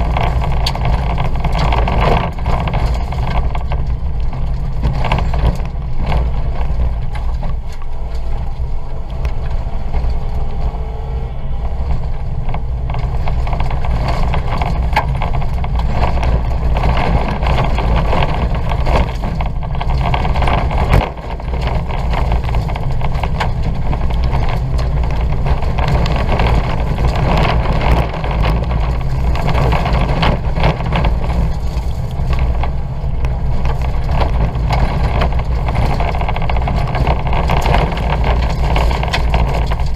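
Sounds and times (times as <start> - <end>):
car engine running hard: 0.0 - 39.9
clicks and knocks from dirt road: 0.0 - 39.9.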